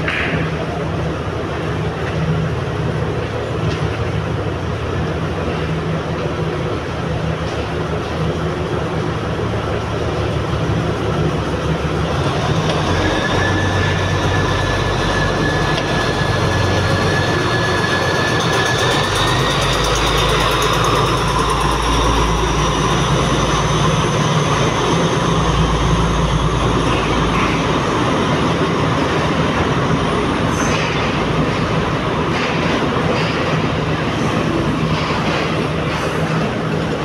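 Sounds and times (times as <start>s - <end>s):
carriages rattling on rails: 0.0s - 37.0s
train engine rumble: 0.0s - 37.0s.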